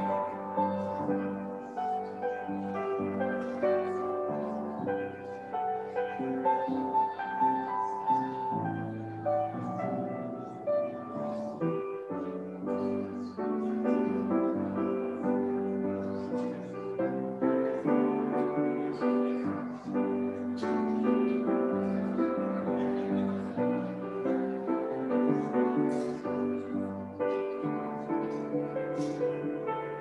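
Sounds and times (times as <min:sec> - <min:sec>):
grand piano playing: 0:00.0 - 0:30.0.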